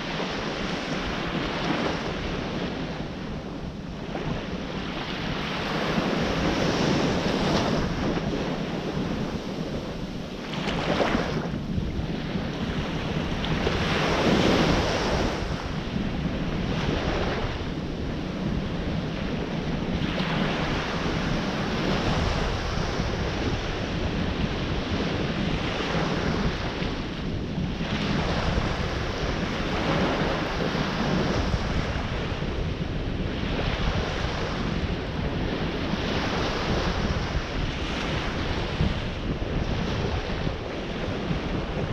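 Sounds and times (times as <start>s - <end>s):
ocean surf breaking: 0.0s - 41.9s
wind rumbling on microphone: 0.0s - 41.9s.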